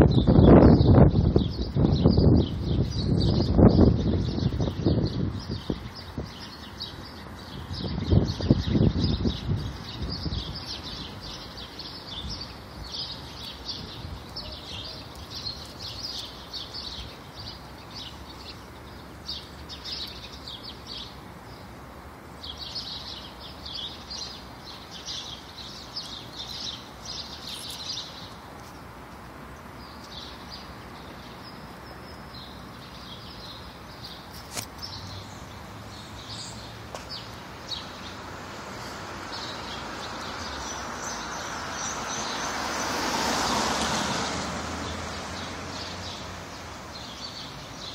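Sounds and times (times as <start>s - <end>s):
low hum of street noise: 0.0s - 47.9s
small birds chirping: 0.0s - 47.9s.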